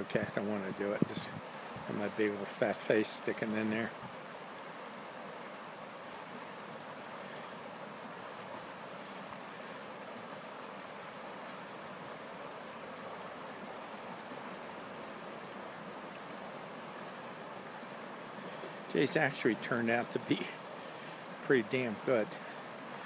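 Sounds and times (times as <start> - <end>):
river flowing over stones: 0.0 - 23.0.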